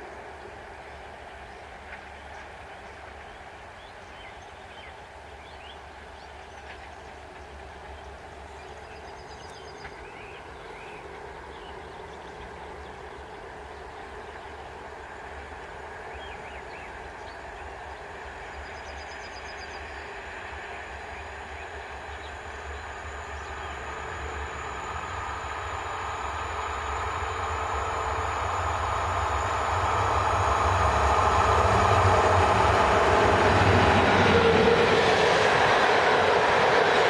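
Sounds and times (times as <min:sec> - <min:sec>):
distant train rumble: 0:00.0 - 0:37.0.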